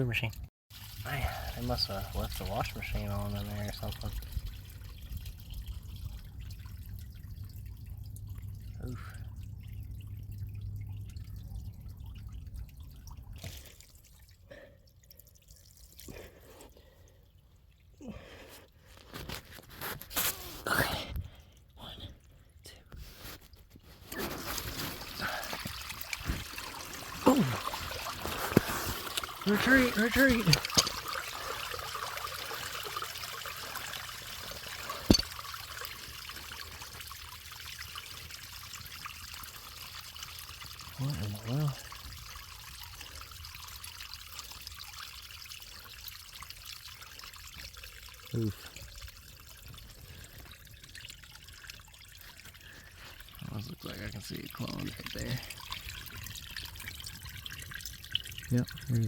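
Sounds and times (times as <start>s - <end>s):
waste water dripping and trickling: 0.0s - 59.0s.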